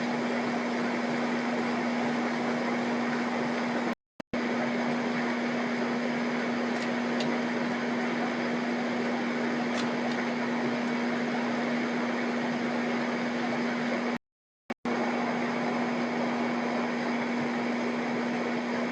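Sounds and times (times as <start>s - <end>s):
mechanical hum: 0.0s - 14.2s, 14.9s - 18.9s.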